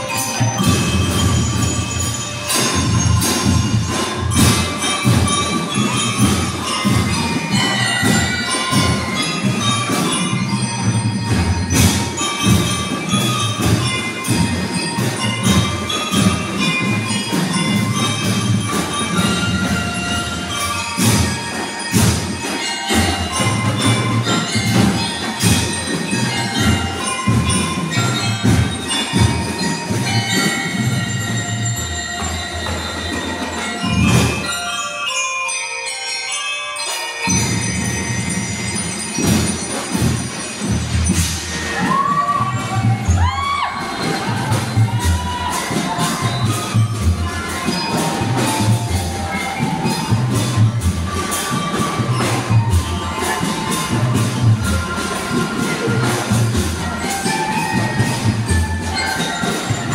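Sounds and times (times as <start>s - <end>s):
drums beating: 0.0s - 35.2s, 36.8s - 59.9s
bell lyre melody: 0.0s - 59.9s.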